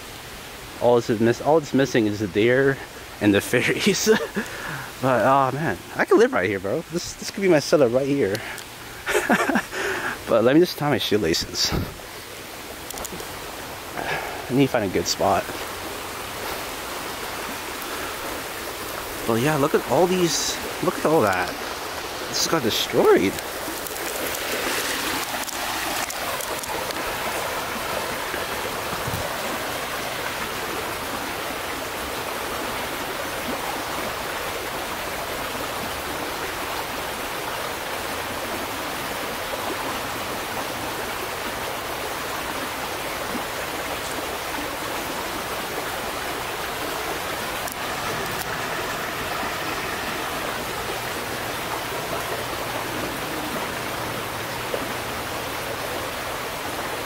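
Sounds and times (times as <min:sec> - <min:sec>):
creek running over stones: 0:00.0 - 0:57.0.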